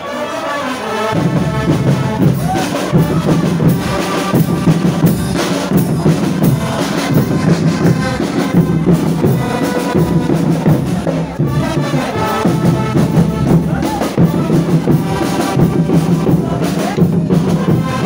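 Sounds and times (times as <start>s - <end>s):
marching band playing: 0.0s - 18.0s
bass drum beat: 1.2s - 18.0s.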